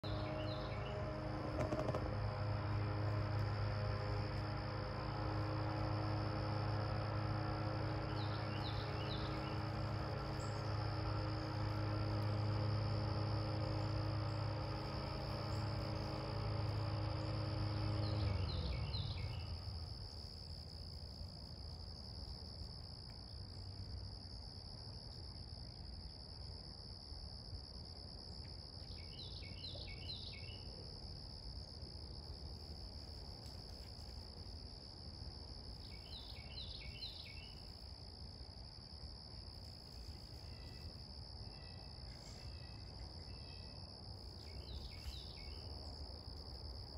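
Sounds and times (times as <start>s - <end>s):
insects droning: 0.0s - 46.9s
low multi-tone hum: 0.0s - 46.9s.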